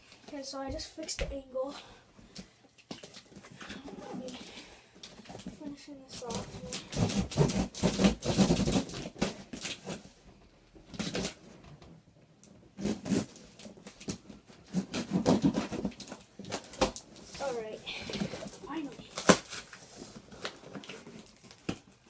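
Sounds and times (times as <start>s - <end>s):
packaging rustling and scraping: 2.8s - 11.6s, 12.7s - 22.0s.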